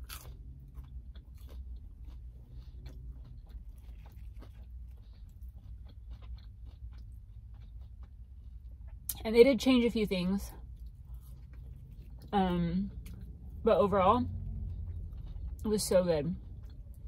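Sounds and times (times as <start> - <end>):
chewing with soft crunching: 0.0 - 17.0
low steady hum: 0.0 - 17.0.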